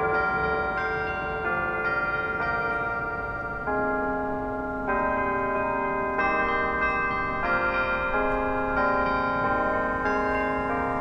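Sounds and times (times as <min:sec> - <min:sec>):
tower chime bells: 0:00.0 - 0:11.0.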